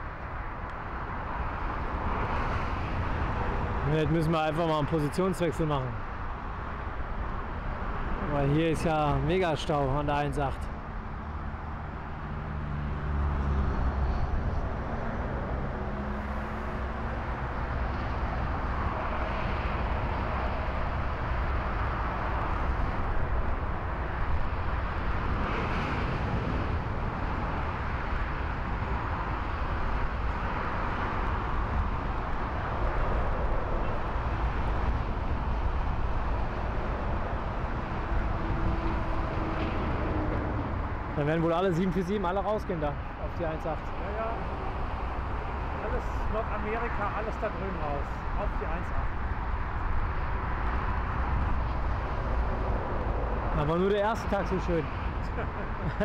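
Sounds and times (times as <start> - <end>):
distant jet engines roaring: 6.7 - 56.0.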